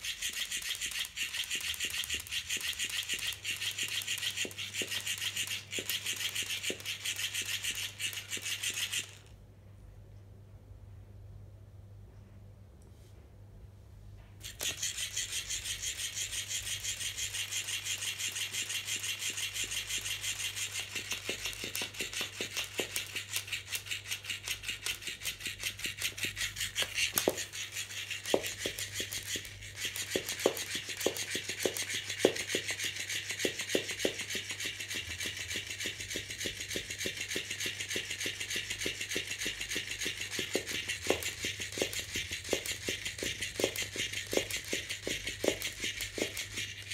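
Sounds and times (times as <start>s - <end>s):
toy motor whirring and rattling: 0.0s - 9.4s, 14.4s - 46.9s.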